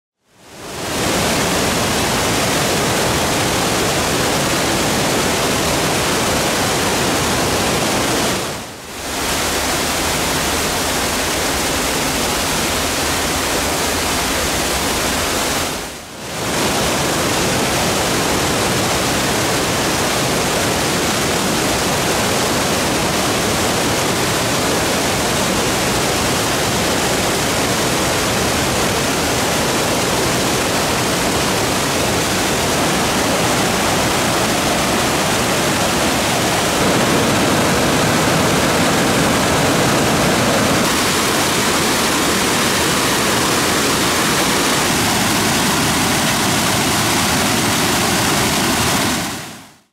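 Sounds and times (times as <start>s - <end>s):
waterfall rushing onto boulders: 0.4s - 49.9s.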